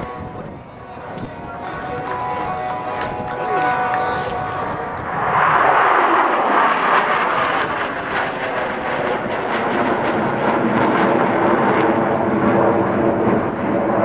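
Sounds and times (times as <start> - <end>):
jets flying overhead: 0.0 - 14.0.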